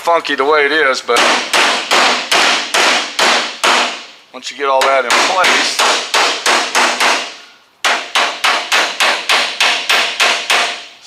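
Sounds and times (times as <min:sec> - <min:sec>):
hammer blows on sheet metal: 0:01.1 - 0:04.2, 0:04.8 - 0:11.0.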